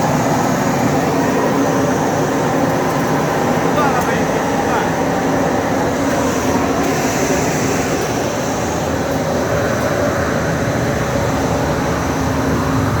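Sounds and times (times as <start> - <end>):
loud machinery noise: 0.0 - 13.0.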